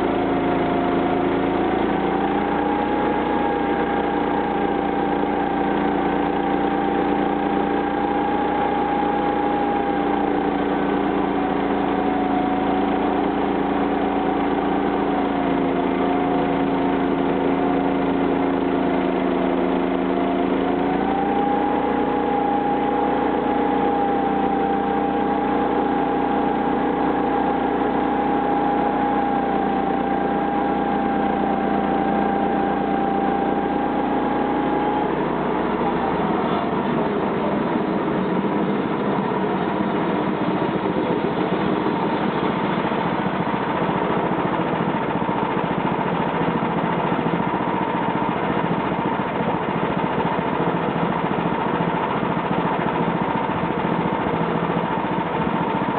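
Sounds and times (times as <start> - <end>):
sawmill engine droning: 0.0 - 55.9.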